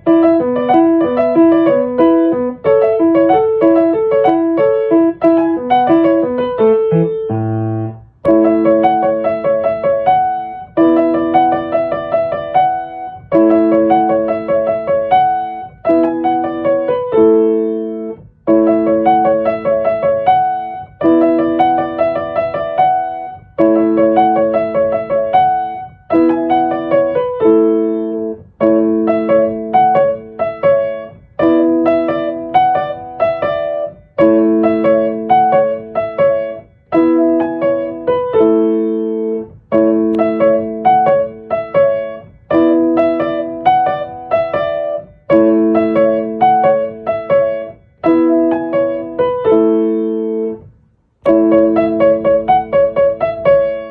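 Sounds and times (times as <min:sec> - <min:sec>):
piano playing repeating chords: 0:00.0 - 0:53.9.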